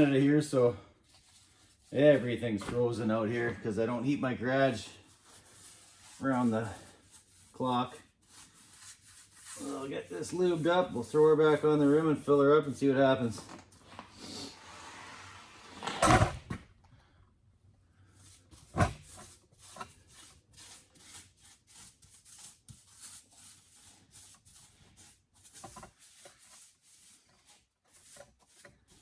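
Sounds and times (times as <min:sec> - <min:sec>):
brush scraping on tire: 0:00.0 - 0:13.4, 0:18.2 - 0:29.0.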